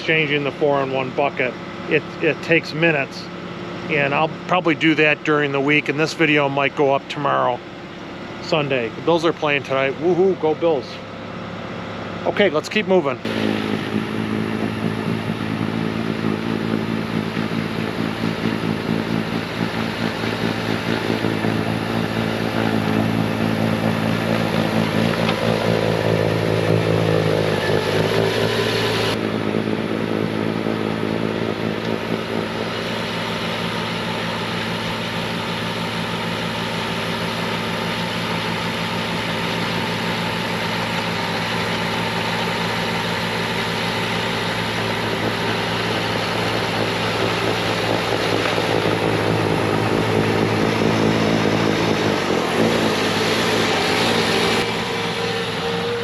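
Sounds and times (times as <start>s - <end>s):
diesel engine at full throttle: 0.0s - 56.0s.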